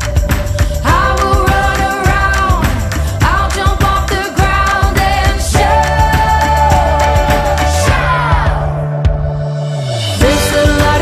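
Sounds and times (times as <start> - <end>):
backing track with drums and bass: 0.0 - 11.0.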